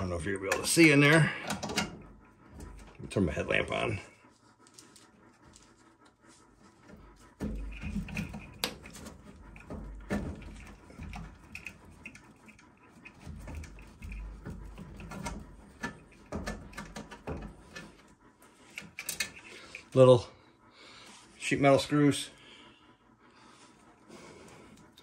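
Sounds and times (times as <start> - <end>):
rustling against wiring: 0.0 - 20.2.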